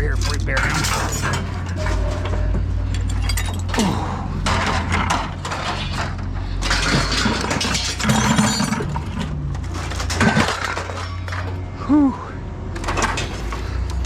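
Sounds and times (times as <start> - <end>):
scrap metal clanking: 0.0 - 11.8, 12.8 - 14.0.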